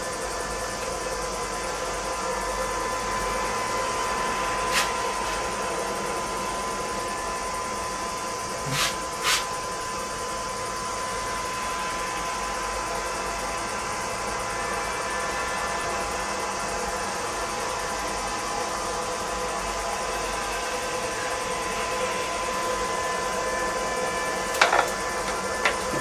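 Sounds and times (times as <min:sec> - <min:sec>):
thin steady whine: 0:00.0 - 0:26.0.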